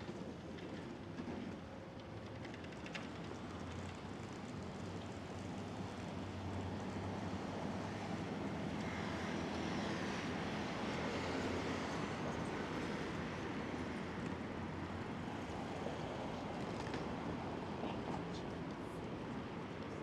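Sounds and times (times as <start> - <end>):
city traffic rumble: 0.1 - 20.0.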